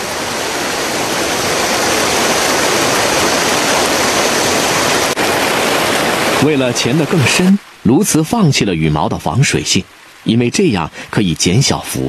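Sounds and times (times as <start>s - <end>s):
rushing white water: 0.0s - 12.0s.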